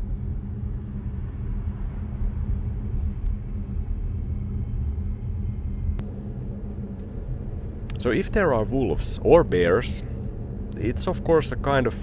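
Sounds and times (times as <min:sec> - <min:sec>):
low hum: 0:00.0 - 0:12.0
road and tyre rumble: 0:00.0 - 0:12.0.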